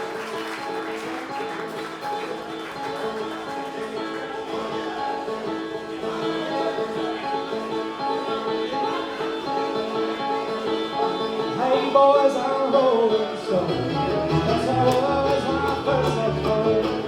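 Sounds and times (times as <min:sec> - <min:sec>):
bluegrass band playing: 0:00.0 - 0:17.0.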